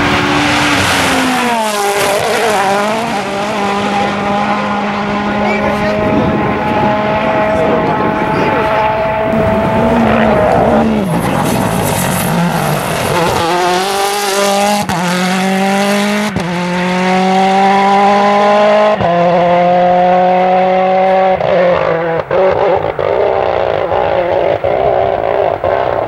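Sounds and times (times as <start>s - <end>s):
gravel and tyre noise: 0.0s - 26.0s
rally car engine accelerating: 0.0s - 26.0s.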